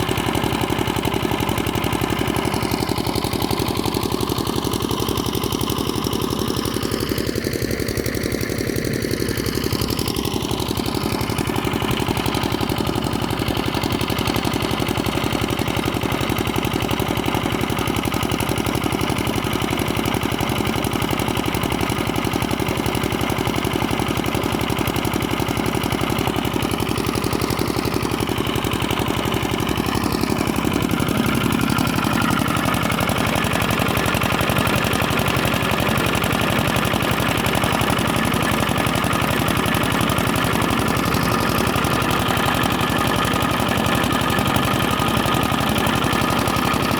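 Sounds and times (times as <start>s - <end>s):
water pump engine running: 0.0s - 46.9s.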